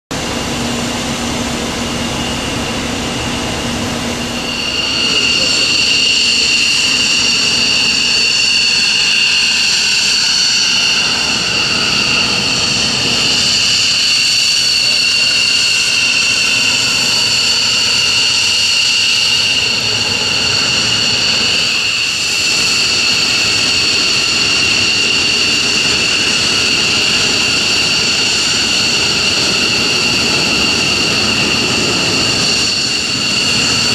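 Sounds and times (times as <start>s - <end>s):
jet engines whining and roaring: 0.1s - 33.9s.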